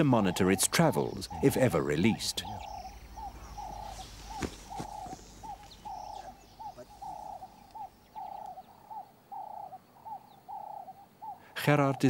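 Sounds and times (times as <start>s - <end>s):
faint high chirps: 0.0s - 11.4s
bird calling rhythmically: 0.0s - 12.0s.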